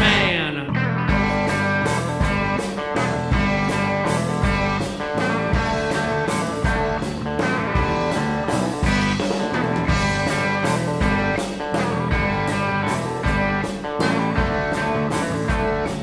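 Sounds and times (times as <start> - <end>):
drum kit beat: 0.0 - 16.0
electric bass: 0.0 - 16.0
electric guitar: 0.0 - 16.0.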